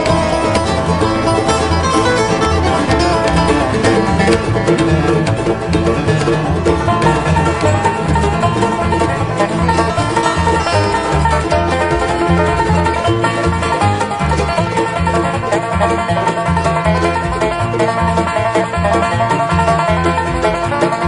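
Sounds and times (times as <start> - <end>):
banjo: 0.0 - 21.0
bass line: 0.0 - 21.0.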